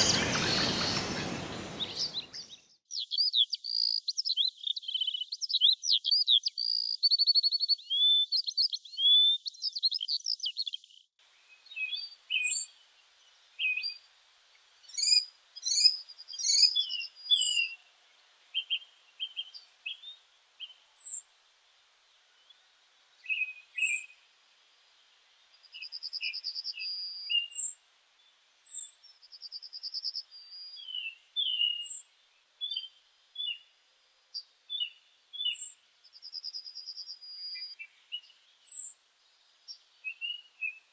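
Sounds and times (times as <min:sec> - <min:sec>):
buzzy bird trills and chirps: 0:00.0 - 0:21.3, 0:22.3 - 0:33.7, 0:34.3 - 0:39.0
warbling birdsong: 0:00.0 - 0:40.9.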